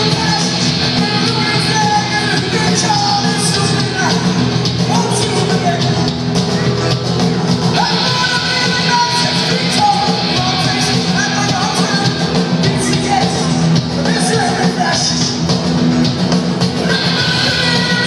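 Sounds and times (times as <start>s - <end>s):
person singing: 0.0s - 15.4s, 16.7s - 18.0s
drums: 0.0s - 18.0s
electric guitars: 0.0s - 18.0s.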